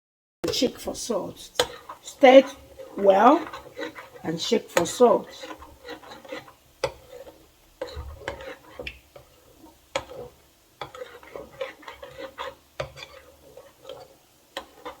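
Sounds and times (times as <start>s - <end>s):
spoon stirring thick batter: 0.5s - 15.0s.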